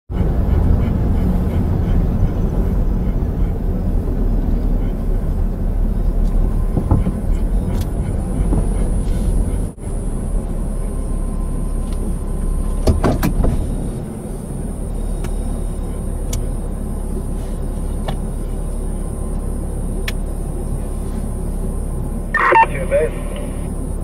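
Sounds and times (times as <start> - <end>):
vehicle engine rumble: 0.1 - 24.0.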